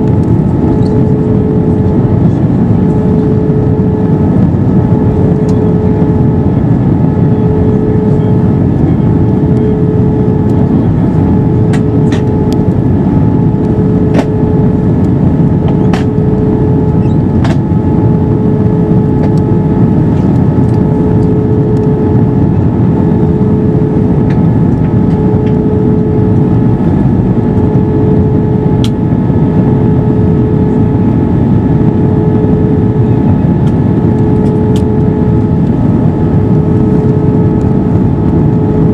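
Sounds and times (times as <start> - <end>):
constant droning tone: 0.0 - 38.9
jet engines and airflow roar: 0.0 - 38.9.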